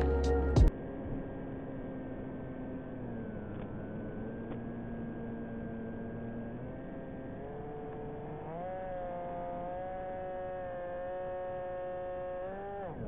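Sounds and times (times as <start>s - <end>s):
model aircraft motor whining: 0.8s - 13.0s.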